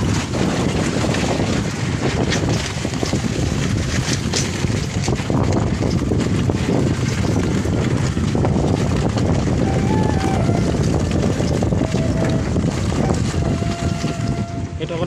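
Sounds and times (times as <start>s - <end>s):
gravel crunching under tyres: 0.0s - 15.0s
vehicle rumble: 0.0s - 15.0s
wind buffeting microphone: 0.0s - 15.0s.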